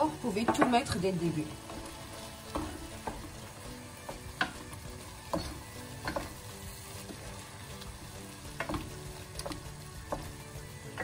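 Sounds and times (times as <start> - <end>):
sauce sizzling: 0.0 - 11.0
spoon stirring thick sauce: 1.5 - 10.9.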